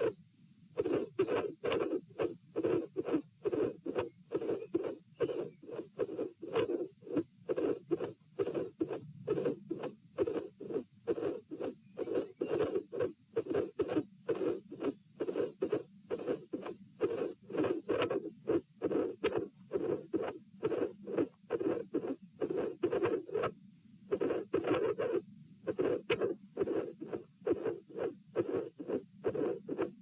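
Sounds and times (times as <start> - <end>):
heartbeat: 0.8 - 23.5, 25.7 - 30.0.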